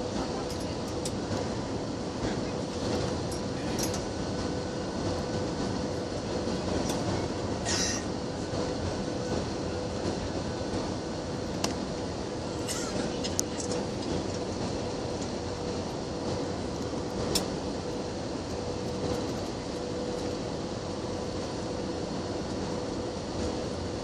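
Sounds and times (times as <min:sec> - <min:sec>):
jet engine and airflow noise: 0:00.0 - 0:24.0.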